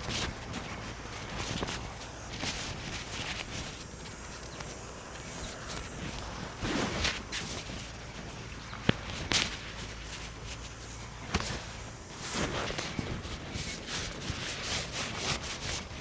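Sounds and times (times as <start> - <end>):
rustling swishes: 0.0 - 16.0.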